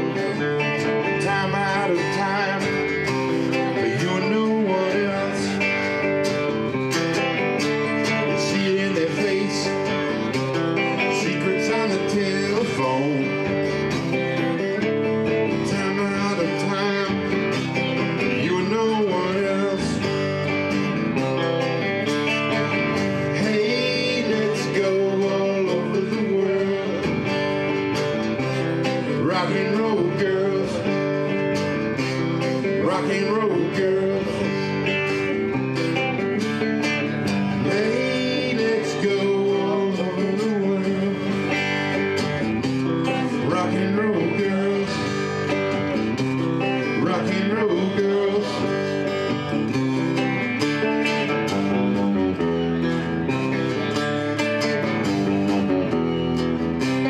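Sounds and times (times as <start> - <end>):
acoustic guitar: 0.0 - 57.0
electric guitar: 0.0 - 57.0.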